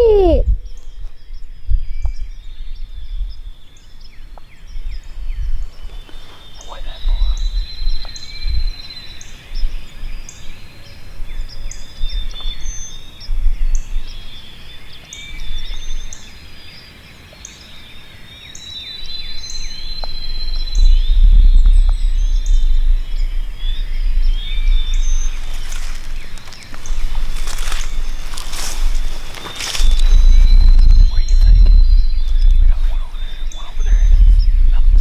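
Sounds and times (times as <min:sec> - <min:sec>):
low rumble on microphone: 0:00.0 - 0:16.3, 0:19.0 - 0:35.0
songbirds chirping: 0:00.0 - 0:35.0.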